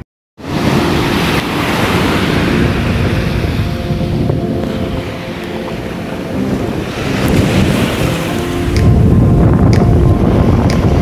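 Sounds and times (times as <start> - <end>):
surf breaking over sand: 0.4 - 11.0
wind buffeting microphone: 0.4 - 11.0.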